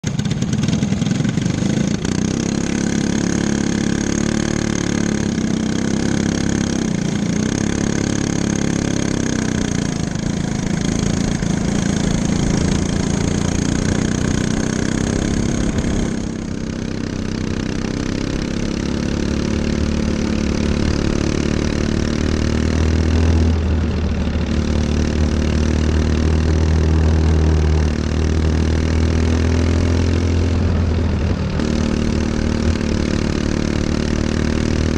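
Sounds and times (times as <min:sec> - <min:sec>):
go-kart engines droning: 0:00.0 - 0:34.9.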